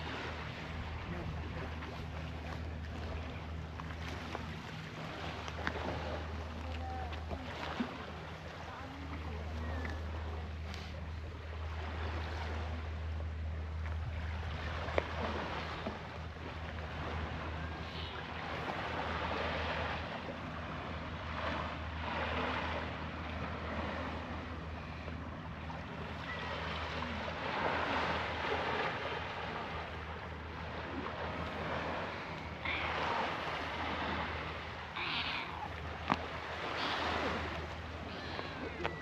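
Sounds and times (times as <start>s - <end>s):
small waves washing: 0.0s - 39.0s
steady low hum: 0.0s - 39.0s.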